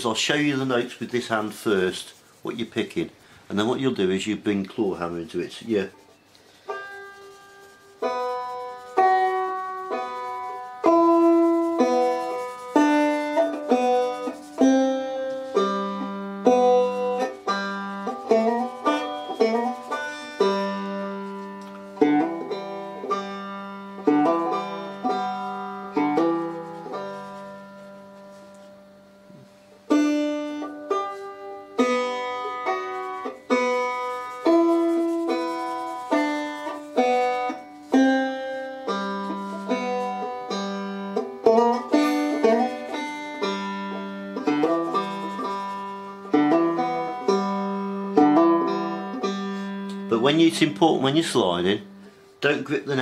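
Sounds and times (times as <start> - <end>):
banjo picking a scale tune: 5.1 - 53.0.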